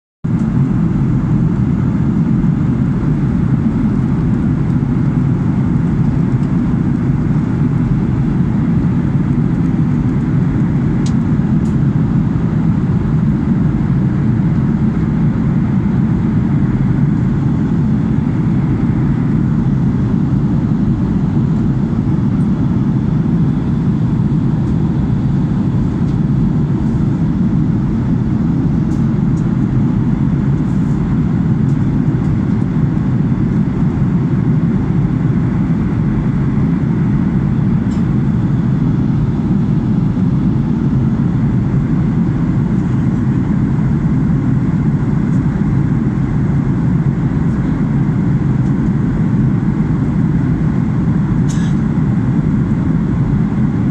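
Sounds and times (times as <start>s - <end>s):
jet airliner cabin rumble: 0.3s - 53.9s.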